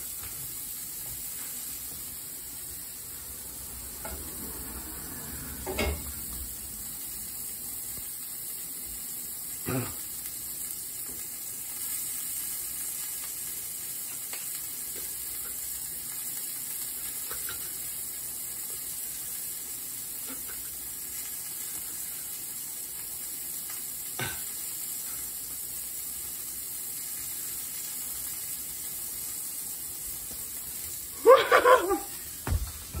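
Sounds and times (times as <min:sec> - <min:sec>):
patties sizzling in a pan: 0:00.0 - 0:33.0.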